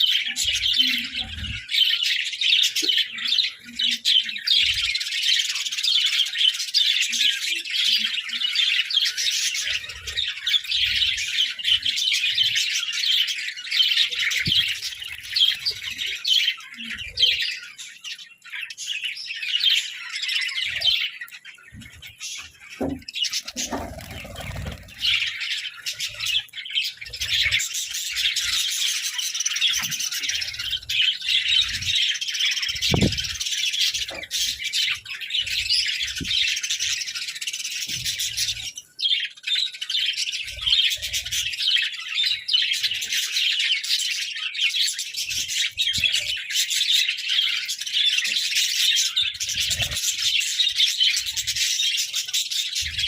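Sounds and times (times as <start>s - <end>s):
budgerigars chattering and chirping: 0.0s - 53.0s.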